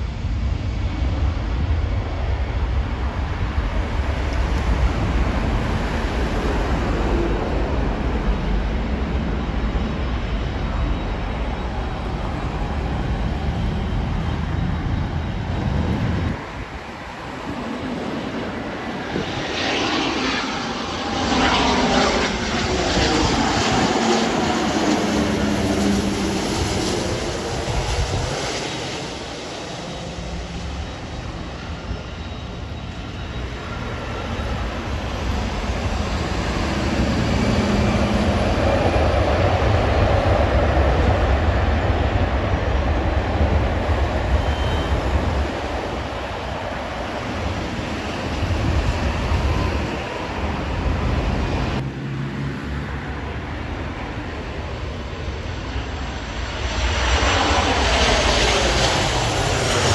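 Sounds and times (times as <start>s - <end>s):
airplane engines passing: 0.0s - 59.9s.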